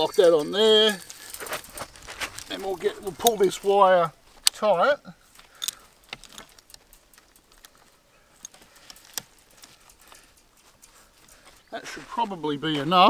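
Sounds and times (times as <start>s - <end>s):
metallic ratchet and chain clicks: 0.0s - 4.6s, 5.4s - 11.8s.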